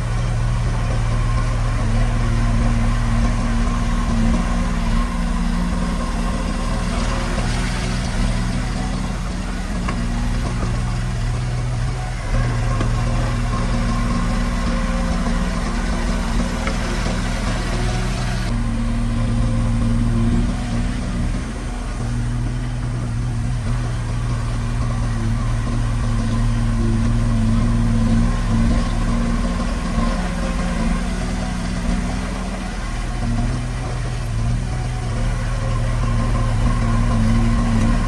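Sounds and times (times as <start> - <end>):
heavy machinery diesel engine: 0.0 - 38.0.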